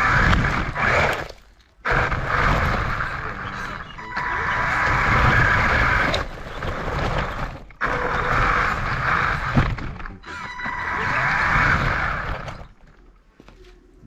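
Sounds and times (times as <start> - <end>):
radio-controlled car whine: 0.0 - 12.8.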